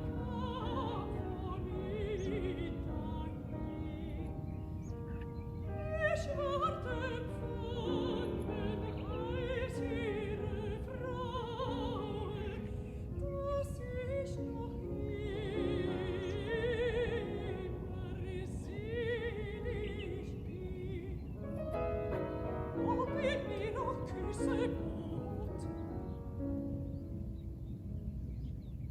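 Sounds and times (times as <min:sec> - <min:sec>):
person singing with vibrato: 0:00.0 - 0:26.5.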